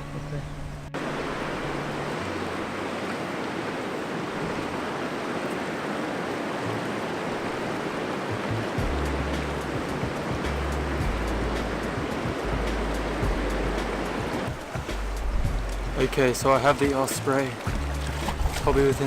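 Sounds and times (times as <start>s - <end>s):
waves breaking on shore: 0.0s - 19.0s
wind: 0.0s - 19.0s.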